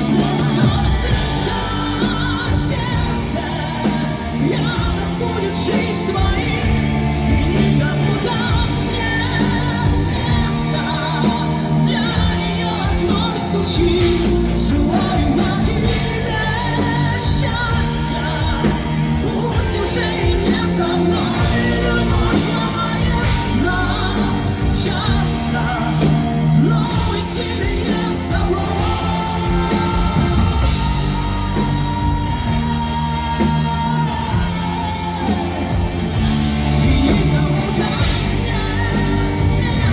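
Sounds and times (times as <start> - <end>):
live pop-rock band with singing: 0.0 - 39.9.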